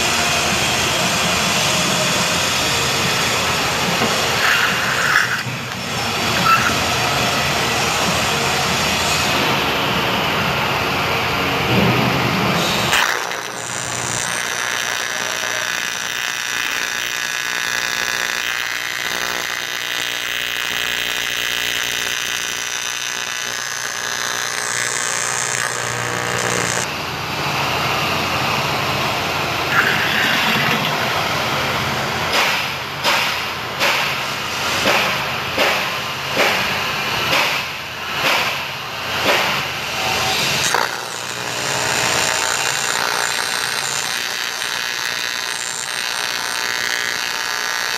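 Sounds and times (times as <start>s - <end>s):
welding arc buzzing: 0.0s - 28.6s, 29.6s - 31.6s, 39.2s - 47.9s.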